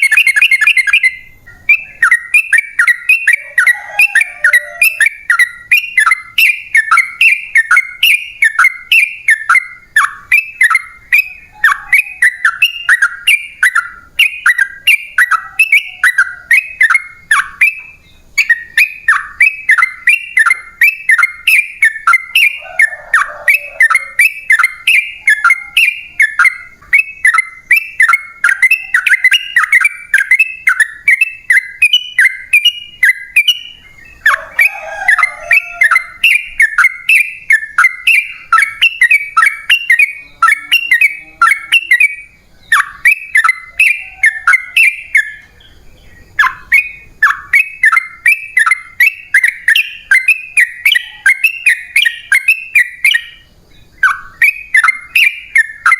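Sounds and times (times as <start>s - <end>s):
bird singing chattering notes: 0.0s - 55.9s.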